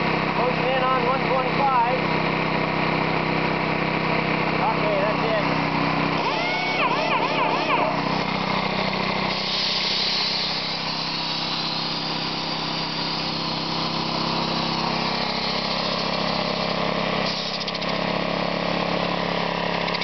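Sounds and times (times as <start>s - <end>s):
lawnmower engine running: 0.0s - 20.0s
air compressor pumping: 2.1s - 20.0s.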